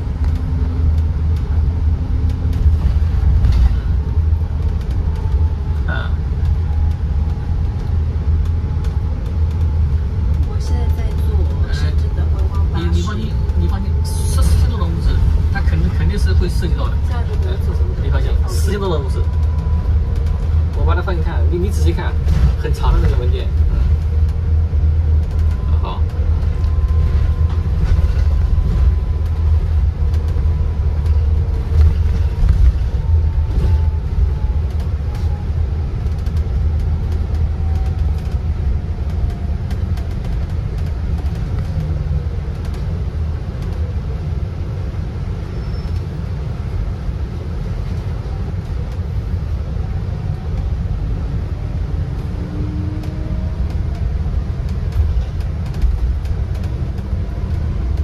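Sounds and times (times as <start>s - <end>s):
bus road noise rumble: 0.0s - 58.0s.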